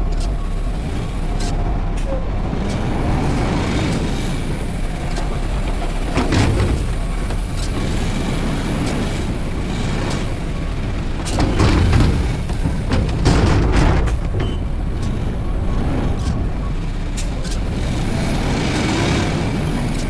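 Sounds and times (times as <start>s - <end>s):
garbage truck engine rumbling: 0.0s - 20.0s
metal knocks and clanks: 0.1s - 17.8s.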